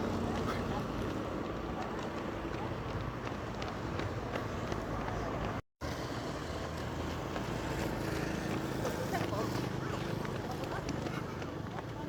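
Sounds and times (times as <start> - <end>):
outdoor street ambience: 0.0 - 12.0.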